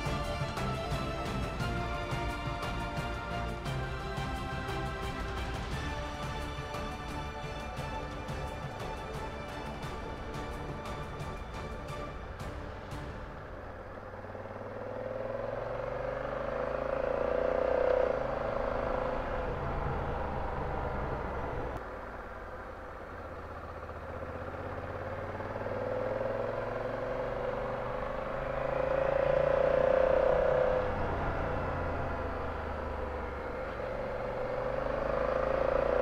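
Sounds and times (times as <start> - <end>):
motorcycle engine running: 0.0 - 36.0
road and wind noise: 0.0 - 36.0.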